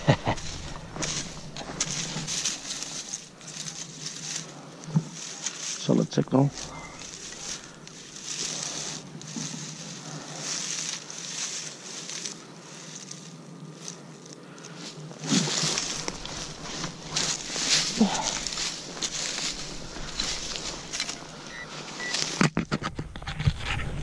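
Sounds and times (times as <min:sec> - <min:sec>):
digging soil and leaf litter: 0:00.0 - 0:22.6.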